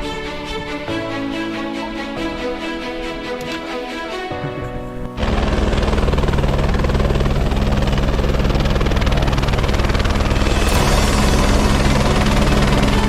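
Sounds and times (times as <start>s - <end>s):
helicopter rotor beat: 0.0s - 13.0s
helicopter turbine hum: 0.0s - 13.0s.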